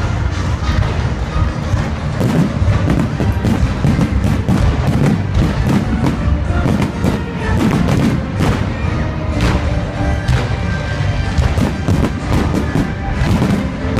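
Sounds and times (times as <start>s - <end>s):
fireworks bangs and crackles: 0.0s - 13.9s.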